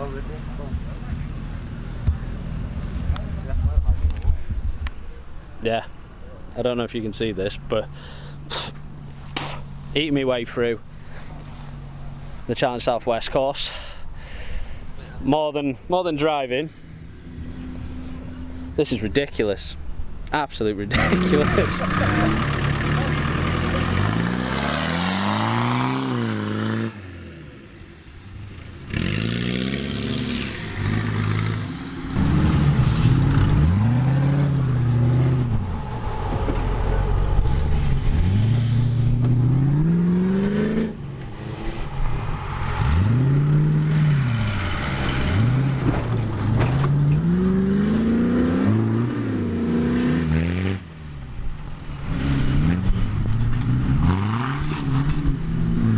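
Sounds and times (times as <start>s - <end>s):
off-road engines revving: 0.0s - 55.9s.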